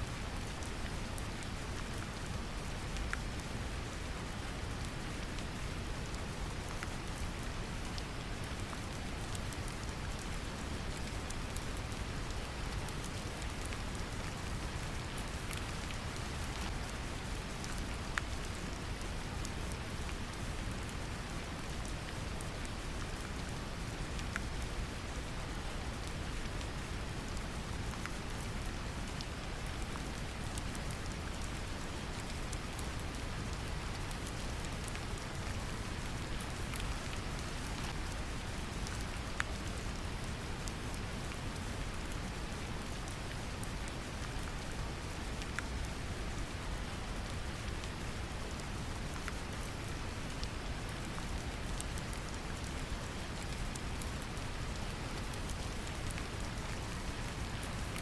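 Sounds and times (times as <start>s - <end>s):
brown noise hiss: 0.0s - 58.0s
gentle rain: 0.0s - 58.0s.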